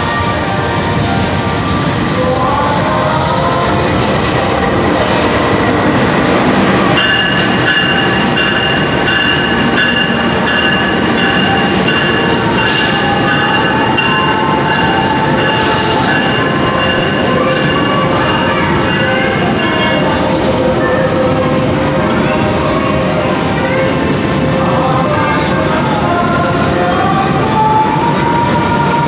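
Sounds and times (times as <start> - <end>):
diesel locomotive engine running: 0.0 - 29.0
train coaches rolling on rails: 0.0 - 29.0.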